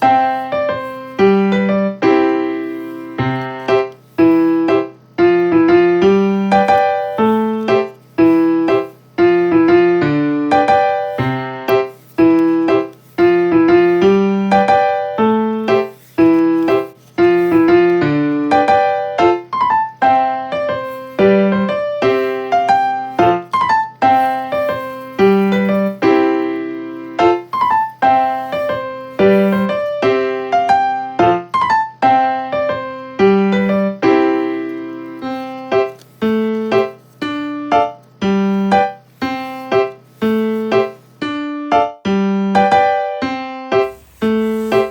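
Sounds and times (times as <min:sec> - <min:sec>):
gentle piano tune: 0:00.0 - 0:44.9.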